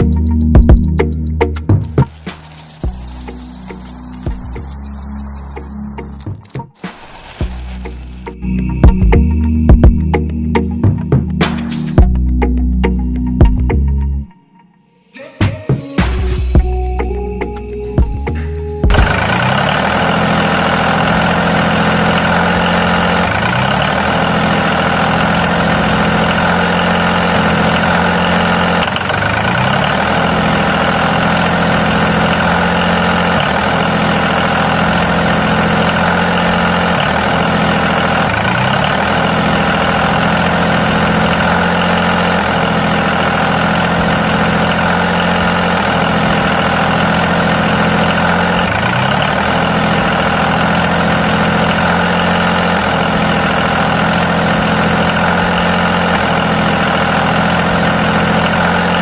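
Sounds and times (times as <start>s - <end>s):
tractor engine idling: 0.0s - 9.2s, 16.4s - 59.0s.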